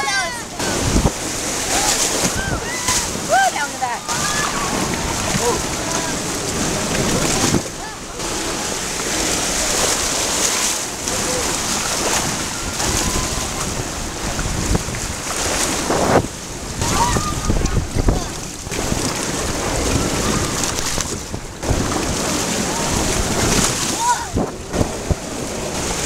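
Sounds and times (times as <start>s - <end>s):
water rushing and splashing: 0.0s - 26.0s
wind buffeting microphone: 0.0s - 26.0s.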